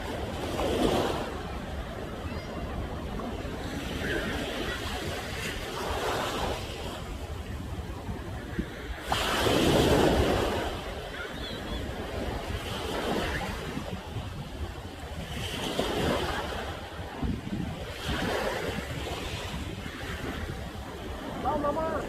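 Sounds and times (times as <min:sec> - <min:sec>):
ocean waves crashing on shore: 0:00.0 - 0:22.0.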